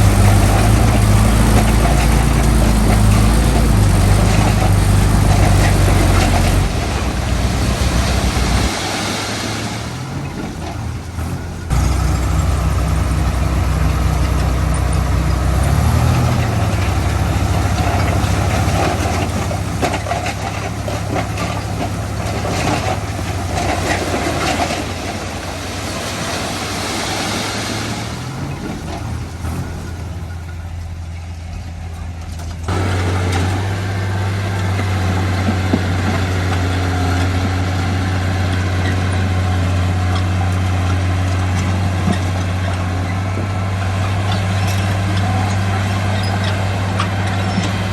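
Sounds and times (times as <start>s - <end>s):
diesel construction machinery running: 0.0s - 47.9s.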